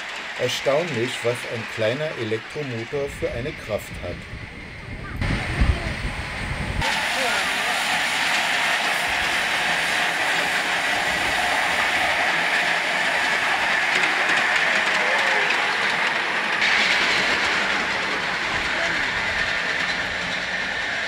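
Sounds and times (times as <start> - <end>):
miniature train wheels rolling on rails: 0.0 - 4.2, 6.8 - 21.0.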